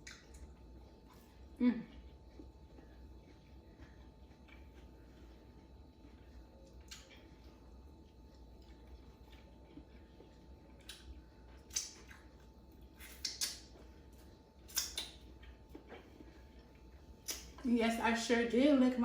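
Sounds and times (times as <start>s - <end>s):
wet chewing and finger-licking: 0.0s - 17.6s.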